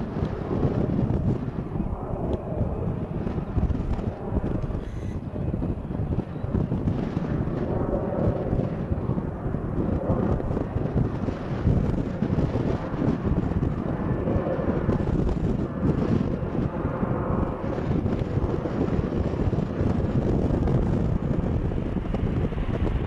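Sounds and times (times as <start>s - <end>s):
jet engines rushing: 0.0s - 23.0s
wind buffeting microphone: 0.0s - 23.0s.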